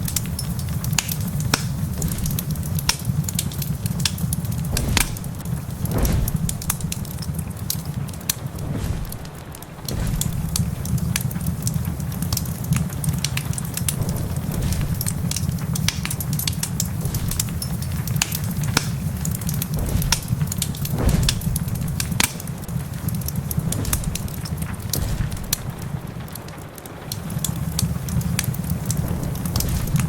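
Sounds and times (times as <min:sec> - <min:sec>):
steady low rumble: 0:00.0 - 0:30.0
wood fire crackling and popping: 0:00.0 - 0:30.0.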